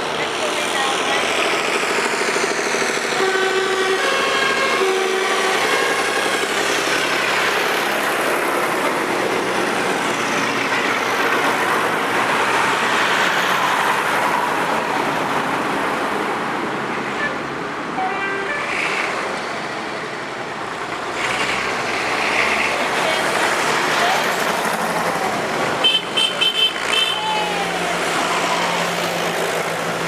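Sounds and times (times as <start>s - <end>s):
tractor engines driving past: 0.0s - 30.0s.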